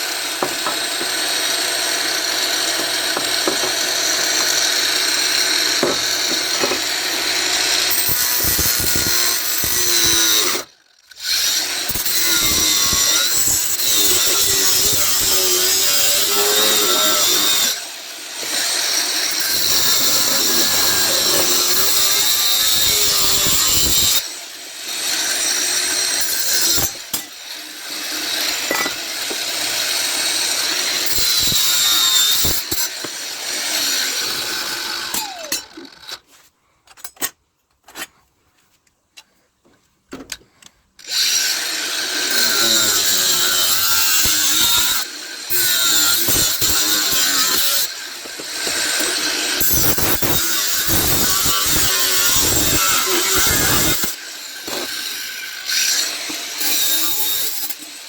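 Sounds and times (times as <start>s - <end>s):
power tool cutting metal: 0.0s - 36.3s, 41.0s - 58.0s.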